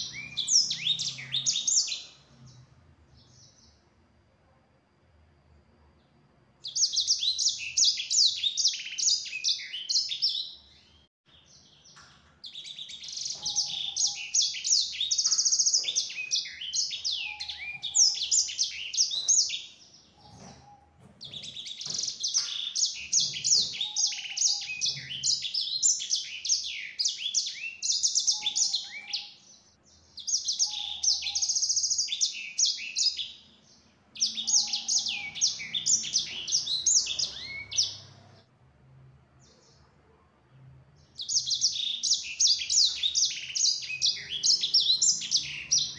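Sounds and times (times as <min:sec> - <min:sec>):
finch singing high twittering song: 0:00.0 - 0:03.8, 0:06.6 - 0:38.4, 0:41.0 - 0:45.9.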